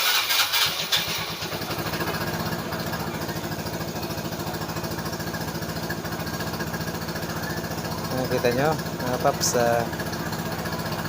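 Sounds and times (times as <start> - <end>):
scooter engine starting and idling: 0.0 - 11.0.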